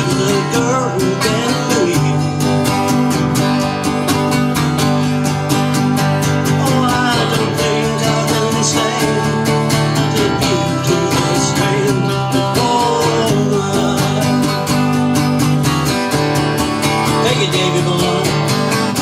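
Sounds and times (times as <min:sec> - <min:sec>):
acoustic guitars strumming: 0:00.0 - 0:19.0
wavering guitar melody: 0:00.0 - 0:19.0.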